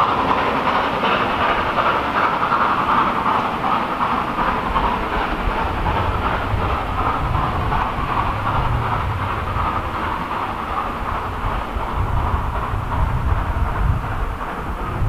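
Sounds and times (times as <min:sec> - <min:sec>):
steam train running: 0:00.0 - 0:15.0.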